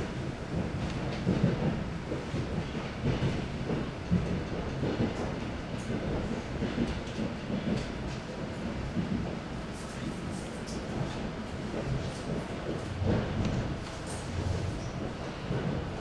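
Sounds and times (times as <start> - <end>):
moving train rumble: 0.0 - 16.0
train wheels clattering over rail joints: 0.5 - 16.0.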